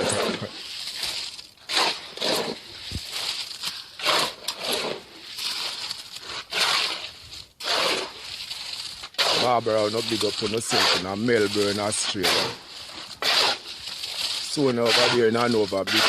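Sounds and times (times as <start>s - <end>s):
tool scraping wet concrete on stone: 0.0s - 16.0s.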